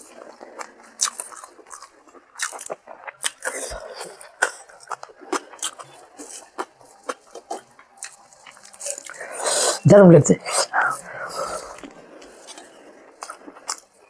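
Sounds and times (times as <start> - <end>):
person chewing food: 0.1 - 9.8, 10.4 - 14.0.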